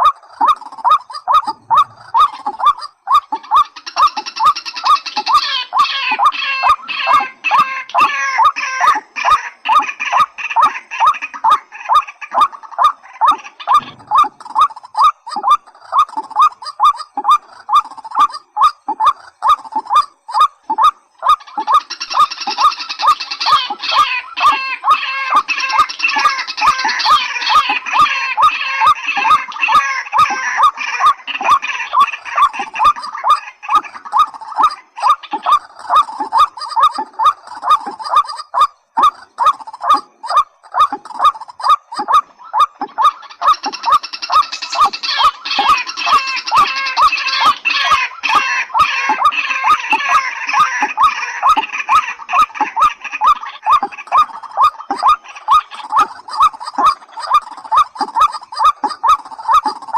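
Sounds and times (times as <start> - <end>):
rail bird calling: 0.0 - 59.9.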